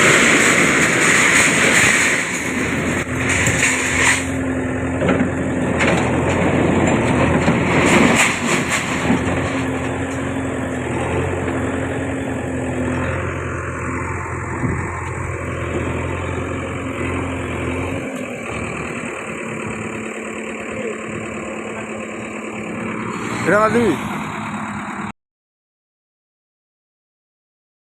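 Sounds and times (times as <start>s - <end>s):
diesel engine running: 0.0s - 25.2s.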